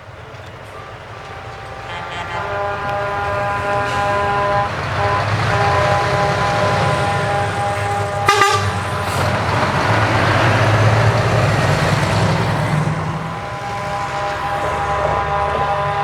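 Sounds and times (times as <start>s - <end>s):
truck engine running: 0.0s - 16.0s
truck horn chord: 0.4s - 16.0s.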